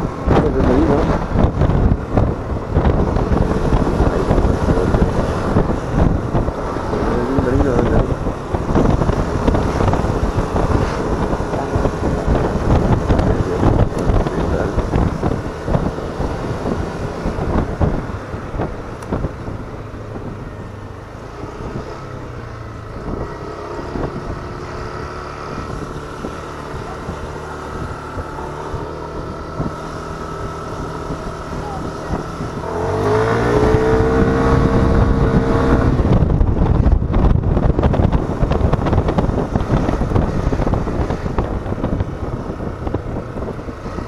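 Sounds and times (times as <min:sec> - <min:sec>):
scooter engine running: 0:00.0 - 0:44.0
wind buffeting microphone: 0:00.0 - 0:44.0.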